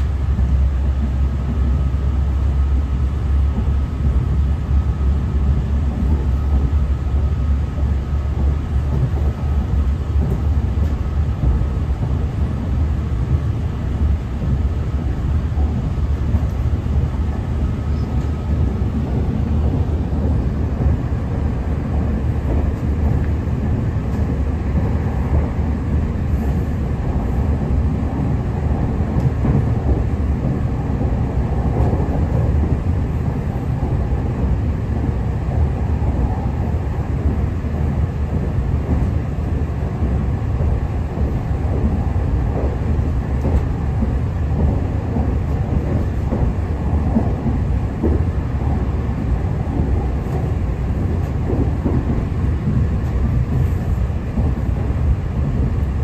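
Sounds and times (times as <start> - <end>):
train running low rumble: 0.0 - 56.0.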